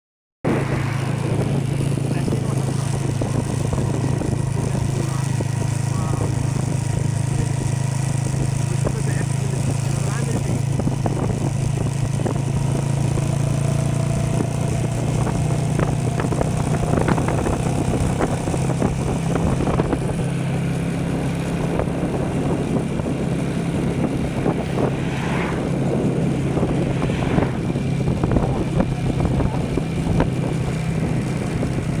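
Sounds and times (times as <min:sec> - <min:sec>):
engine humming: 0:00.4 - 0:32.0
engine clatter and knocks: 0:01.5 - 0:24.6, 0:27.6 - 0:32.0.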